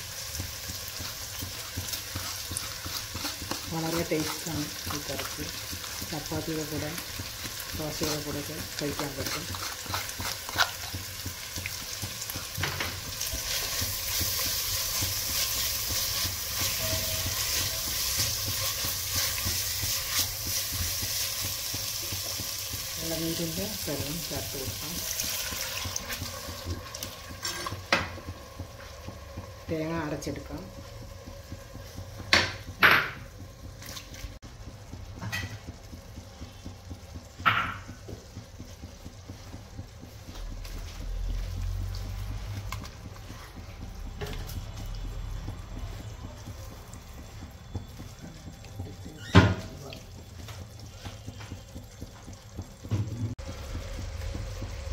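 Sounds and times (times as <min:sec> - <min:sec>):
spatula stirring and scraping: 0:00.0 - 0:54.9
vegetables sizzling in a pot: 0:00.0 - 0:54.9.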